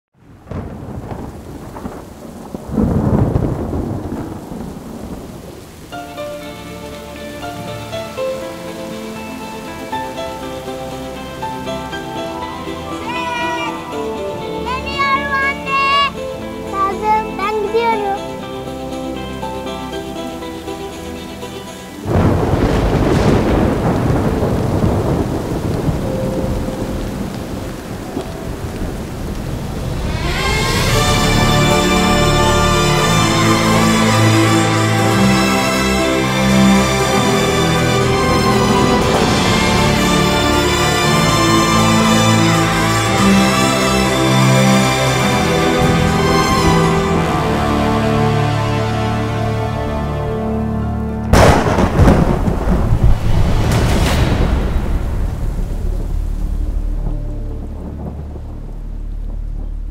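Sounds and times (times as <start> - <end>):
steady rain: 0.1 - 59.9
thunder rolling: 0.2 - 16.8, 21.5 - 59.9.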